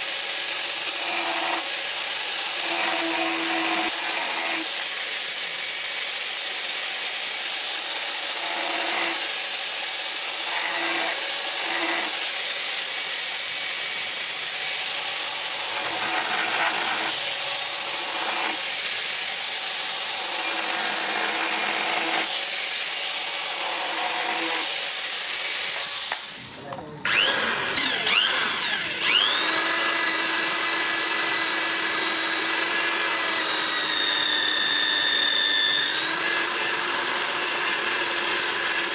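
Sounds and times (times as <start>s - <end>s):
electric grinder grinding steel: 0.0s - 38.9s.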